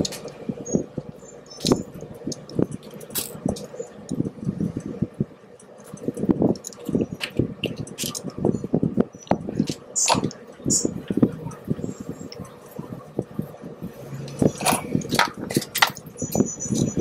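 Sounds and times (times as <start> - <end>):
wire ends clicking and scraping: 0.0 - 4.9, 5.6 - 13.3, 14.1 - 17.0.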